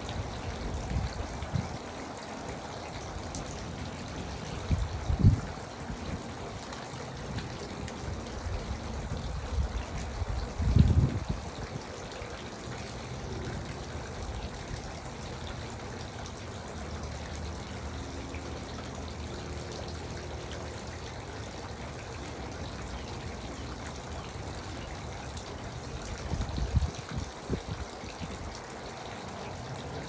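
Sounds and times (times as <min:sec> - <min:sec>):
fountain trickling and splashing: 0:00.0 - 0:30.0.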